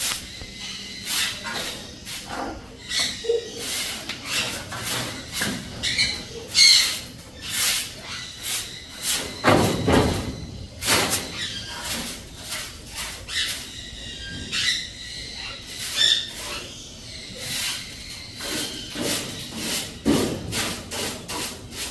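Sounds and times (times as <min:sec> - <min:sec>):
high bird calls: 0:00.0 - 0:20.1.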